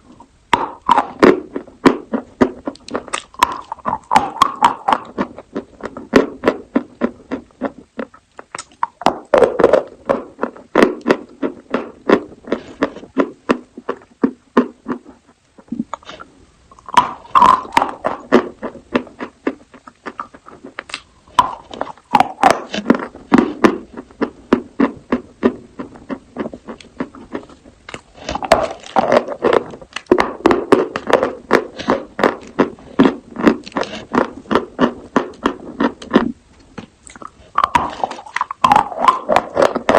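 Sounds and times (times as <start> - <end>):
chalk being chewed: 0.8 - 36.3, 37.0 - 39.9.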